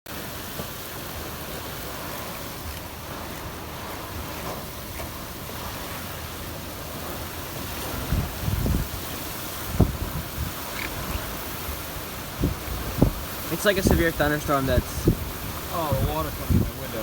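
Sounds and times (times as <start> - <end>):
rough surf: 0.1 - 17.0
storm wind: 0.1 - 17.0
wind buffeting microphone: 0.2 - 17.0.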